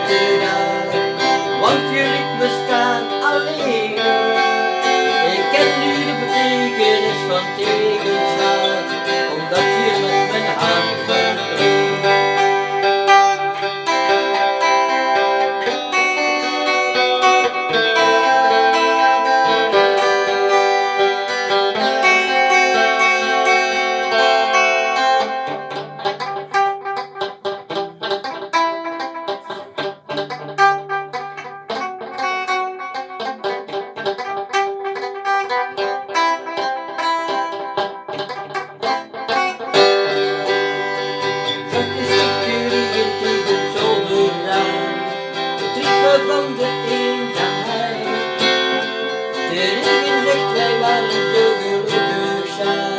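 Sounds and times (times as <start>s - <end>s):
pop song guitar over bass line: 0.0s - 27.0s, 35.2s - 52.9s.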